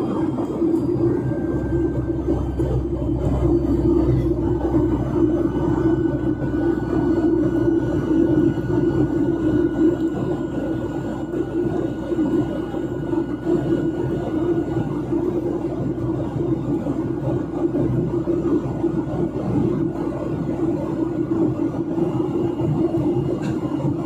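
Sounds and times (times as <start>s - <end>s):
airplane cabin engine drone: 0.0s - 24.0s
thin steady whine: 0.0s - 24.0s.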